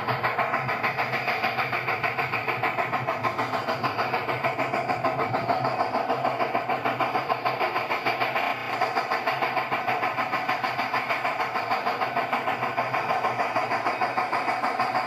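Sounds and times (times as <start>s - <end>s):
machine running with pulsing beat: 0.0s - 15.0s.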